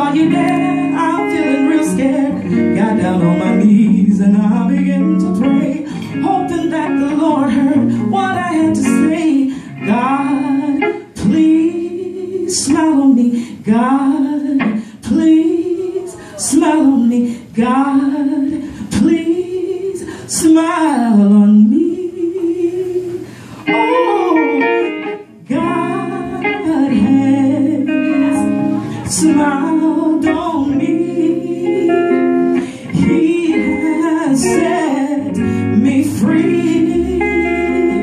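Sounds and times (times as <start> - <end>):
electric guitar chords: 0.0 - 19.9, 21.1 - 38.0
woman singing: 0.0 - 38.0.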